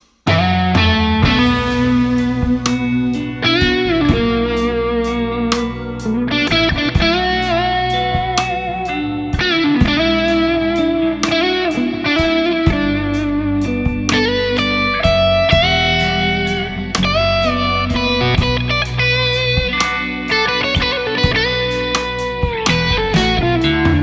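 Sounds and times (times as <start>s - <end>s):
steady bass: 0.0s - 24.0s
ticking beat: 0.0s - 24.0s
overdriven electric guitar lead: 0.3s - 24.0s.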